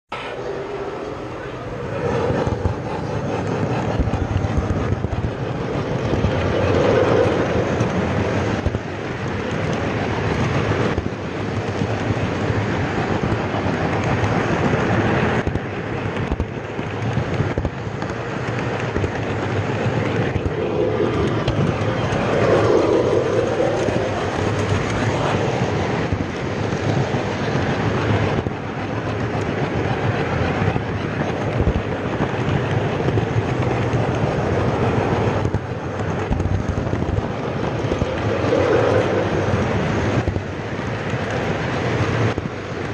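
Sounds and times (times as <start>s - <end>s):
model train motor and wheels rumbling: 0.2s - 42.9s.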